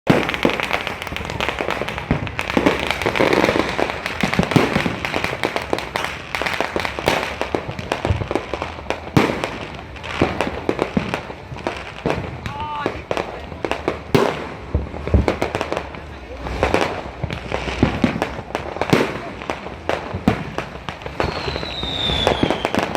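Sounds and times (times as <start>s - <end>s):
fireworks bangs and pops: 0.0s - 22.9s.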